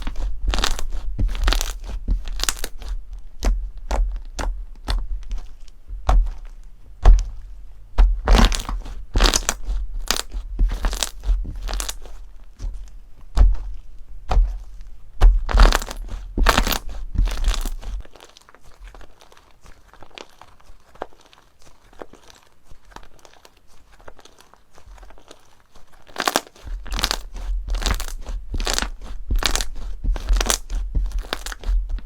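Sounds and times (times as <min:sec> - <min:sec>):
crunchy slime squeezed crackling: 0:00.0 - 0:32.0.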